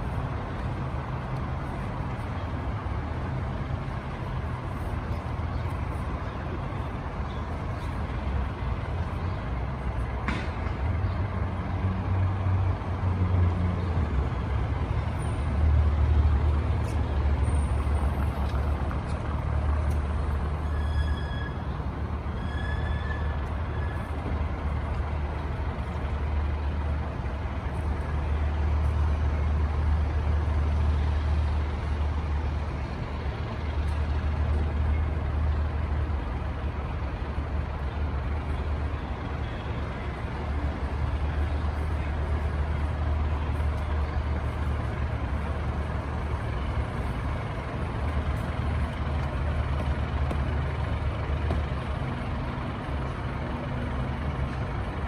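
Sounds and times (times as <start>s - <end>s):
diesel fire truck engine idling: 0.0s - 55.0s.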